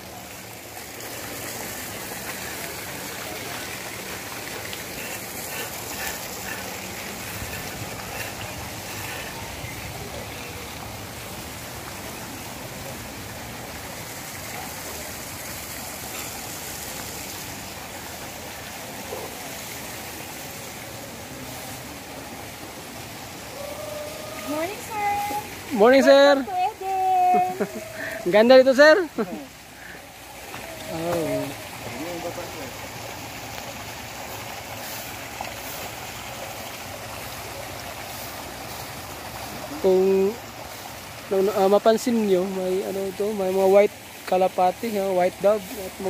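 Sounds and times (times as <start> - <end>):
water running: 0.0 - 46.0.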